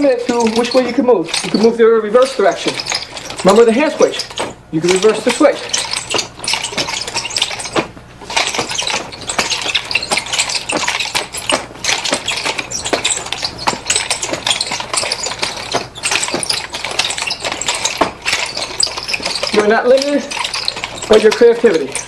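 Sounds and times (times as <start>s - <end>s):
nunchaku chain rattling: 0.0s - 22.0s
steady low hum: 0.0s - 22.0s
swishes of swinging: 0.0s - 22.0s.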